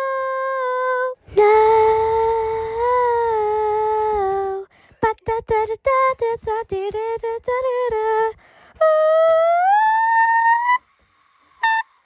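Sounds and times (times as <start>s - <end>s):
person singing unaccompanied: 0.0s - 10.9s.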